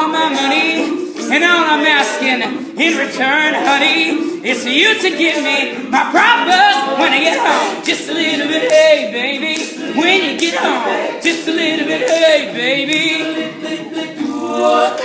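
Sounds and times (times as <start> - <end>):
crisp beat: 0.0 - 15.0
male a cappella group singing: 0.0 - 15.0.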